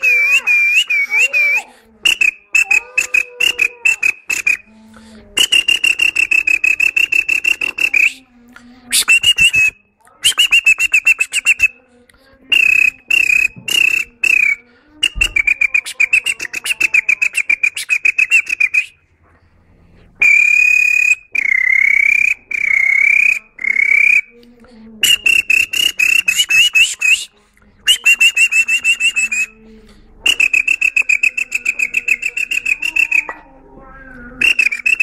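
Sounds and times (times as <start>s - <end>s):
child whistling birdsong: 0.0s - 4.7s, 5.4s - 8.2s, 8.9s - 11.8s, 12.5s - 19.0s, 20.2s - 24.3s, 25.0s - 27.3s, 27.9s - 29.6s, 30.2s - 35.0s.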